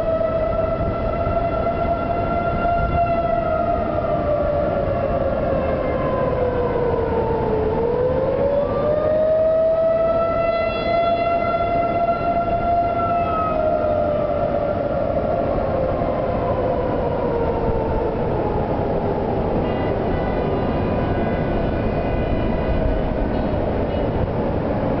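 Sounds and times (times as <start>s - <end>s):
higher siren tones: 0.0s - 23.3s
tornado warning siren wailing: 0.0s - 25.0s.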